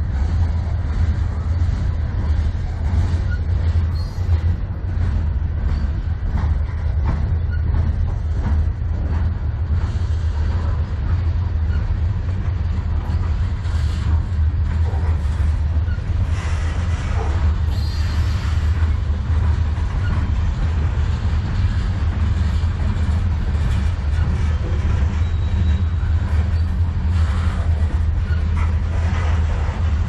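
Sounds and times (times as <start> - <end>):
clicks of train wheels: 0.0 - 30.0
freight train wheels rumbling: 0.0 - 30.0.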